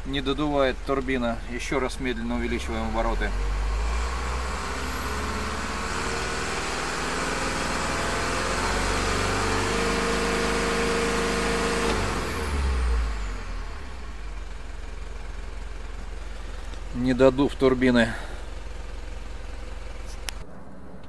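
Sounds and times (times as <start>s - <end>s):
diesel truck engine revving: 0.0s - 20.4s.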